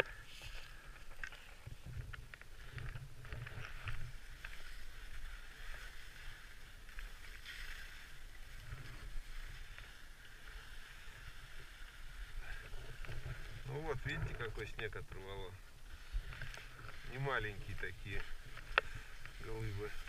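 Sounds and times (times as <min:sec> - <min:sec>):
snow crunching: 0:00.0 - 0:20.0.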